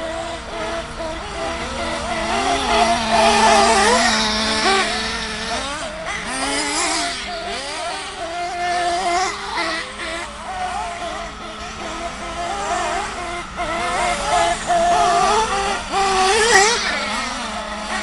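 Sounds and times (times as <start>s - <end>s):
rc buggy engines revving: 0.0s - 18.0s.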